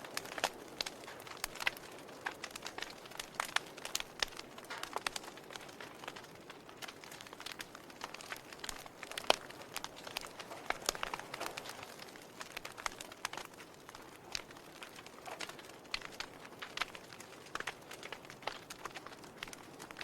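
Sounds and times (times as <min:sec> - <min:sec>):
log fire crackling and popping: 0:00.0 - 0:20.0
soft steady fire hiss: 0:00.0 - 0:20.0.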